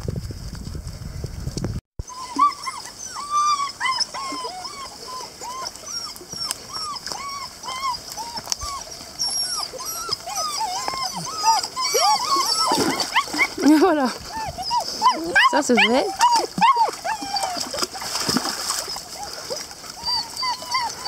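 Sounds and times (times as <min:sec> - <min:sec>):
puppies whimpering: 0:02.0 - 0:21.0.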